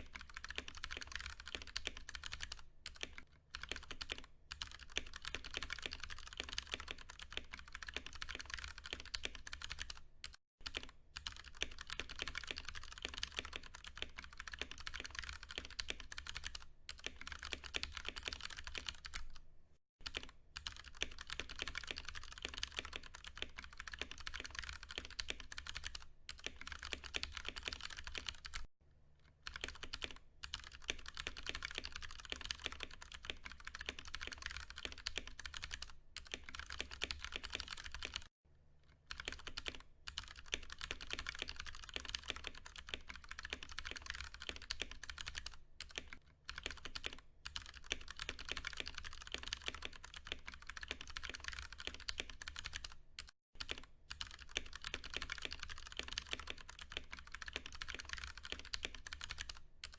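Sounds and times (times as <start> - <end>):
fast typing on mechanical keyboard: 0.0 - 19.4, 20.0 - 28.7, 29.4 - 38.3, 39.1 - 59.9.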